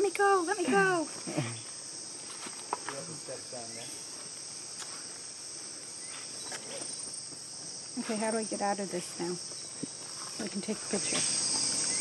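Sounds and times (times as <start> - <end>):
insects chorus shrill hiss: 0.0 - 12.0.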